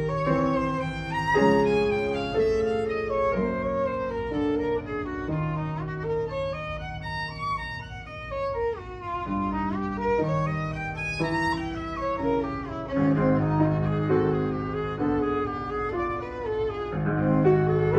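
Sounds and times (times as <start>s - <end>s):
violin slow melody: 0.0s - 17.9s.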